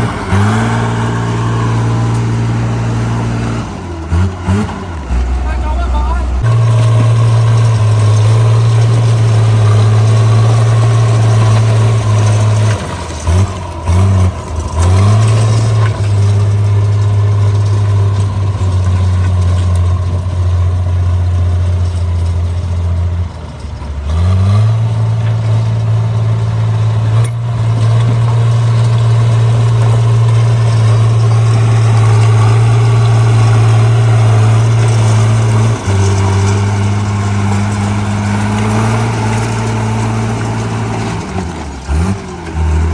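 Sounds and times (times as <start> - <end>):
bulldozer diesel engine under load: 0.0 - 42.9.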